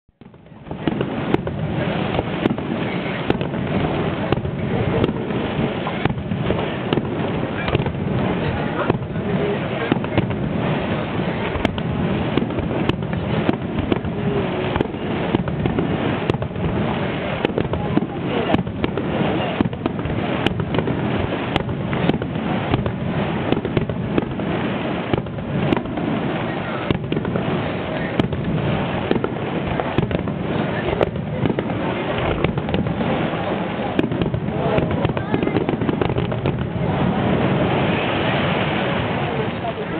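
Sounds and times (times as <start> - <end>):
fireworks crackling: 0.0 - 39.9
fireworks bangs: 0.1 - 39.9.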